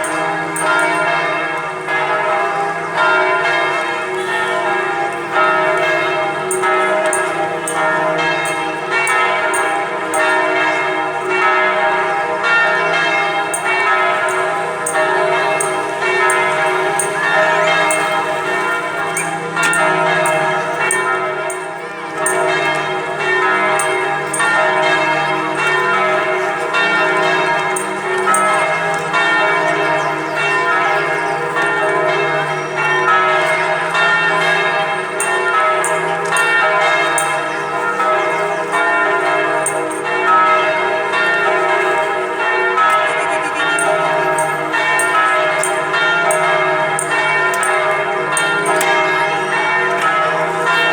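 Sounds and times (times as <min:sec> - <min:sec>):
church bells pealing: 0:00.0 - 0:50.9.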